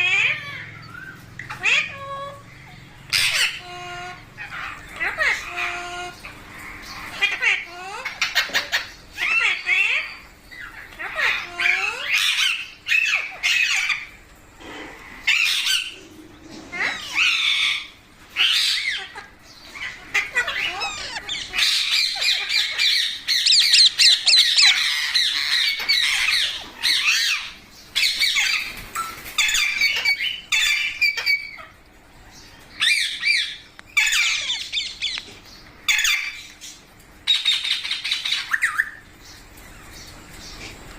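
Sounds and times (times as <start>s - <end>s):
parrot squawking and chattering: 0.0s - 31.8s, 32.5s - 39.1s.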